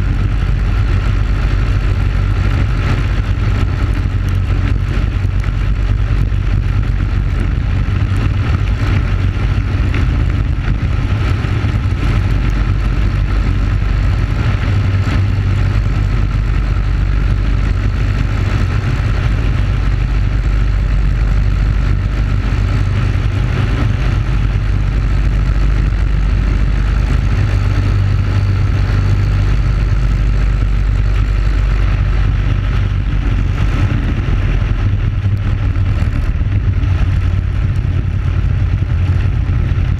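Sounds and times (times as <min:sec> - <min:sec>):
kart engine running: 0:00.0 - 0:39.9
wind rumble on microphone: 0:00.0 - 0:39.9.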